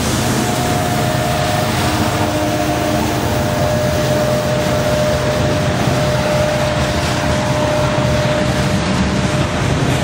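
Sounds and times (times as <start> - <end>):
steady whine: 0.0 - 10.0
train wheels rumbling on rail: 0.0 - 10.0.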